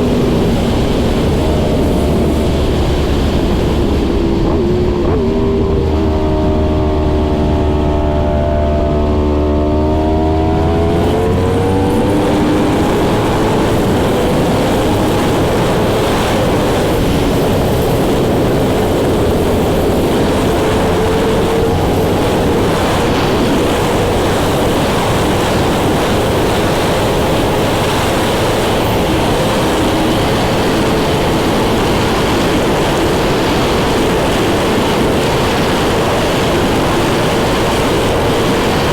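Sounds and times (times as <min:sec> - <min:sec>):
motorcycle engine accelerating: 0:00.0 - 0:38.9
wind rush over microphone: 0:00.0 - 0:38.9.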